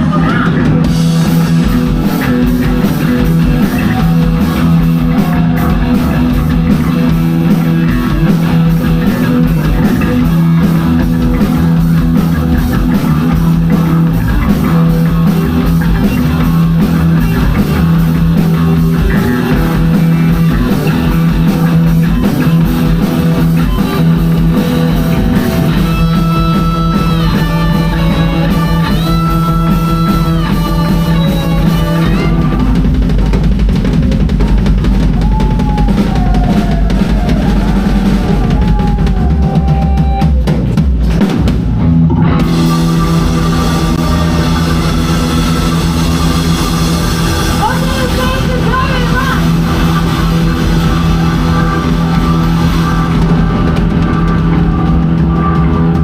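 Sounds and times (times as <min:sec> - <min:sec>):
rock band playing: 0:00.0 - 0:56.0.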